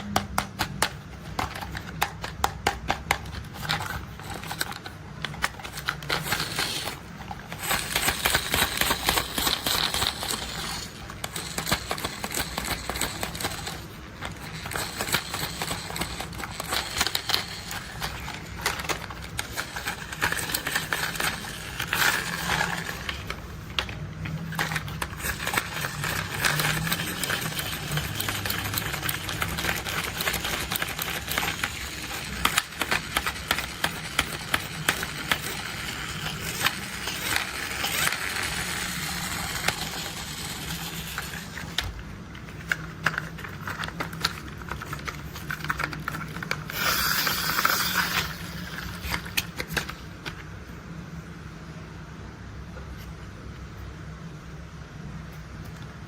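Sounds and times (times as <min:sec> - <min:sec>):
plastic toys clicking and rattling: 0:00.0 - 0:50.5.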